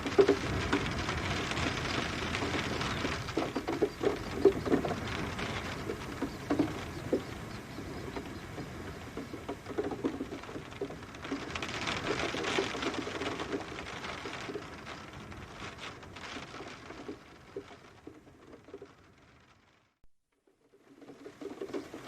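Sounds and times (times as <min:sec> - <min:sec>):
rain hissing: 0:00.0 - 0:17.8
raindrops tapping: 0:00.0 - 0:19.7, 0:20.6 - 0:22.0.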